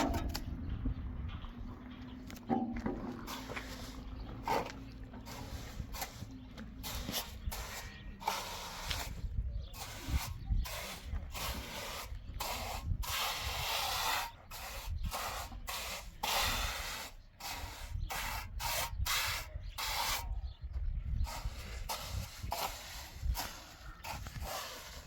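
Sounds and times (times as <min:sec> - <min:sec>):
rasping scraping strokes: 0:02.8 - 0:20.4, 0:21.2 - 0:25.0.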